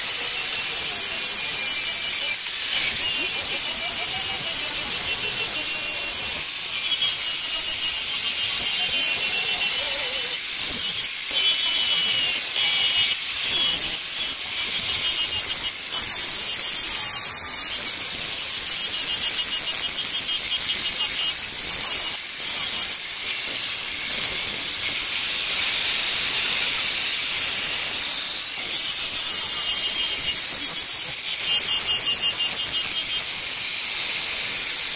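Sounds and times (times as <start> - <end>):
angle grinder grinding stone: 0.0 - 34.9.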